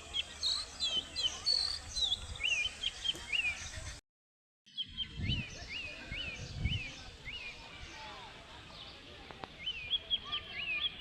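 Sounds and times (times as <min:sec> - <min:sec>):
bird chirping: 0:00.0 - 0:04.0, 0:04.7 - 0:11.0
outdoor background noise: 0:00.0 - 0:04.0, 0:04.7 - 0:11.0.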